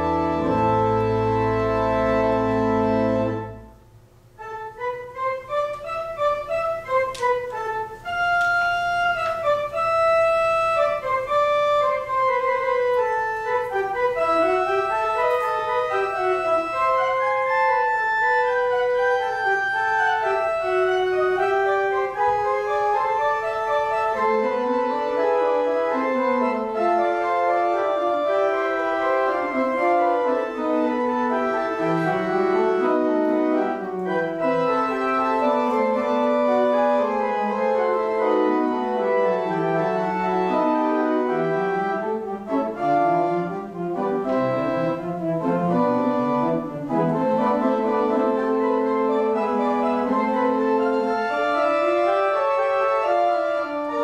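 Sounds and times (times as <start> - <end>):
organ music: 0.0 - 54.0.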